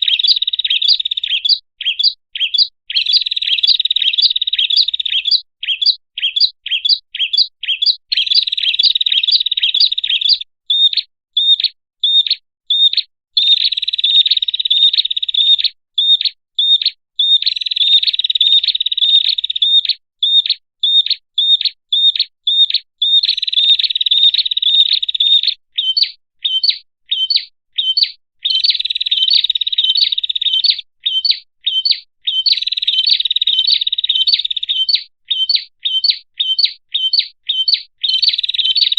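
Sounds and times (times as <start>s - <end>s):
small songbird chirping and trilling: 0.0s - 38.9s.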